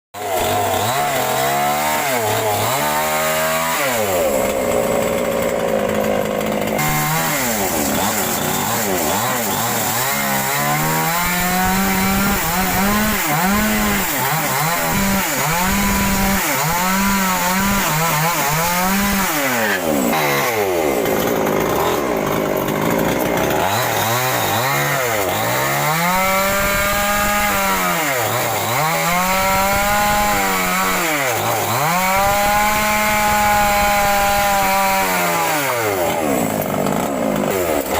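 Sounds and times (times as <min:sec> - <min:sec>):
power carving tool cutting wood: 0:00.2 - 0:37.9.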